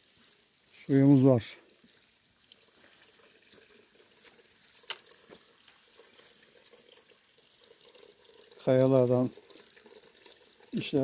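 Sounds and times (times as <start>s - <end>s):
water drips: 0.0s - 11.0s
water trickling from rocks: 0.0s - 11.0s.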